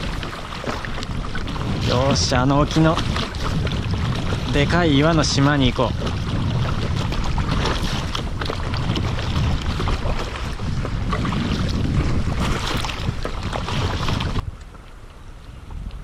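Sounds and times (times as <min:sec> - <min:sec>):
kayak paddle splashing: 0:00.0 - 0:16.0
wind buffeting microphone: 0:00.0 - 0:16.0.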